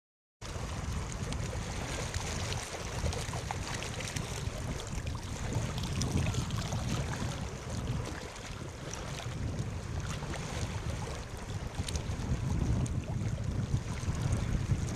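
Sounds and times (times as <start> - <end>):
waves breaking on shore: 0.4 - 14.9
wind rumble on microphone: 0.4 - 14.9.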